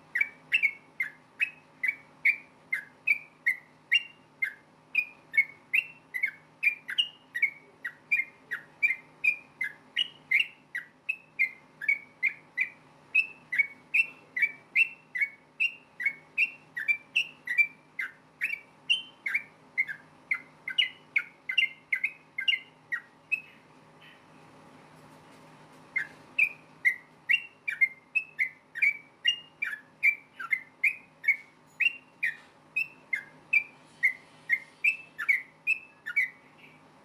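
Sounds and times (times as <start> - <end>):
bird singing whistled notes: 0.0 - 24.3, 25.9 - 36.9.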